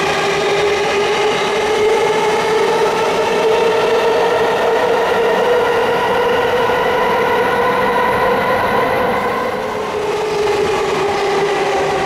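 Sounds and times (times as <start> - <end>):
electric train running: 0.0 - 12.0
train whine: 0.0 - 12.0.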